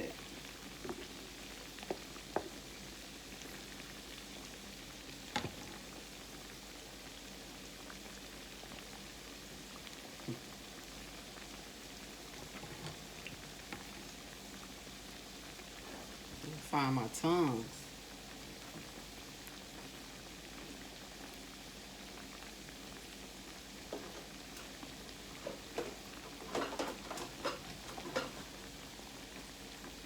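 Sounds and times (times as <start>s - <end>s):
food sizzling in grease: 0.0s - 30.0s.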